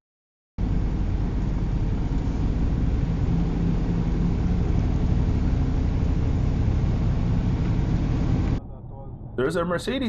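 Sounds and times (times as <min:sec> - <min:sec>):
vehicle road and engine rumble: 0:00.6 - 0:10.0.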